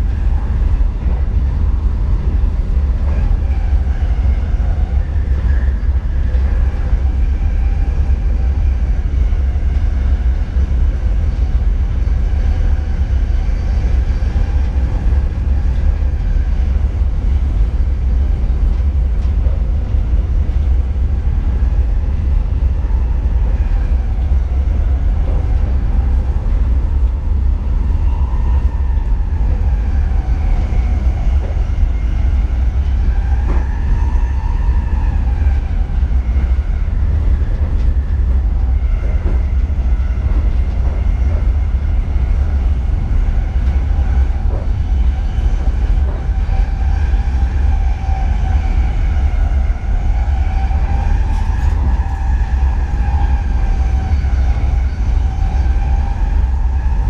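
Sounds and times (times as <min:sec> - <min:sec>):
electric train rumbling: 0:00.0 - 0:57.0.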